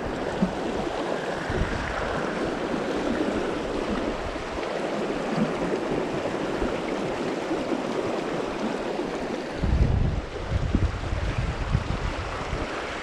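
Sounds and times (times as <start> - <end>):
river water rushing over riffle: 0.0 - 13.0.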